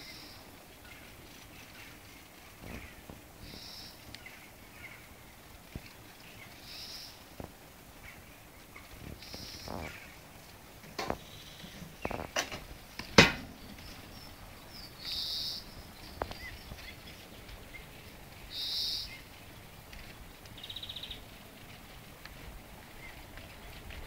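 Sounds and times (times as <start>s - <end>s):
songbirds calling: 0.0s - 24.0s.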